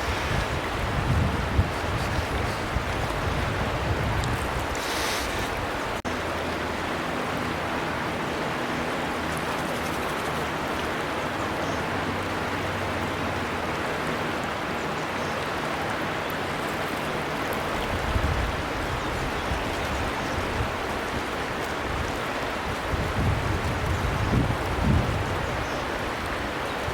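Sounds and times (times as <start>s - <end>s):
river flowing: 0.0s - 26.9s.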